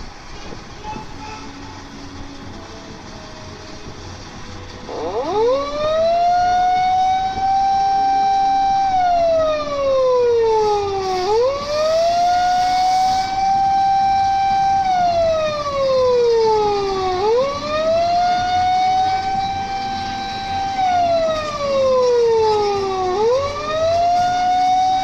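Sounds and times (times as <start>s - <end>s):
electronic siren wailing: 4.8s - 25.0s.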